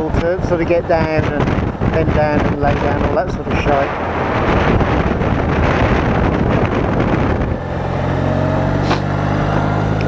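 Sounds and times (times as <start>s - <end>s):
motorcycle engine running at low revs: 0.0s - 10.0s
wind rushing over microphone: 0.0s - 10.0s.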